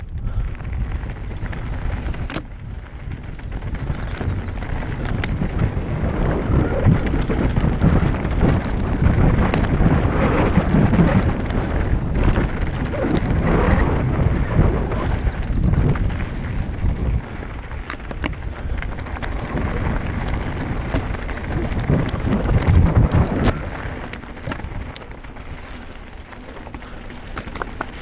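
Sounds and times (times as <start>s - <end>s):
bike clicks: 0.0s - 28.0s
wind buffeting microphone: 0.0s - 28.0s
tyres crunching over gravel: 0.1s - 28.0s.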